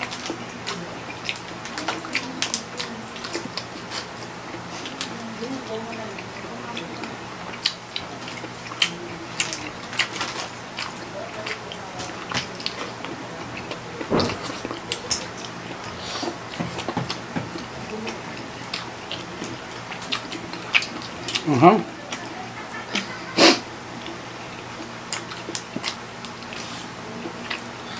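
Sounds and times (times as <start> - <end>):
people chewing and slurping noodles: 0.0 - 27.9.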